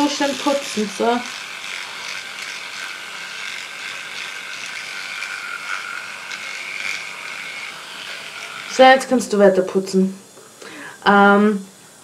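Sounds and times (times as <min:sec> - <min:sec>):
electric toothbrush buzzing: 0:00.0 - 0:10.0.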